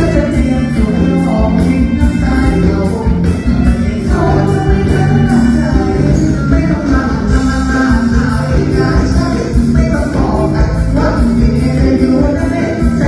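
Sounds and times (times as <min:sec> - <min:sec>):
band music with beat: 0:00.0 - 0:13.0
person singing: 0:00.0 - 0:13.0.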